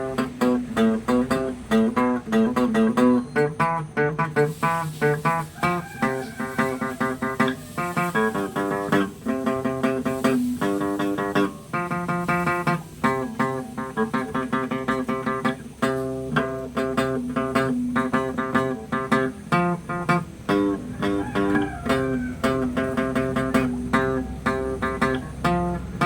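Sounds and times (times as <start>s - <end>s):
guitar solo: 0.0s - 26.0s.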